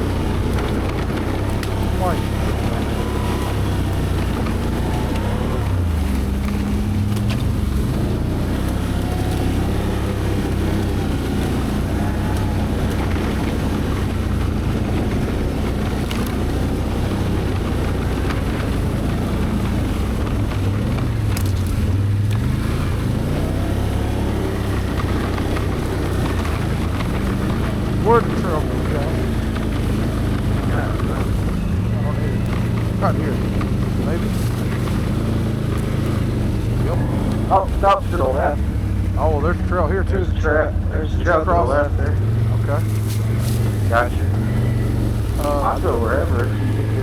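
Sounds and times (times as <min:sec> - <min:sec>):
atv engine running: 0:00.0 - 0:47.0.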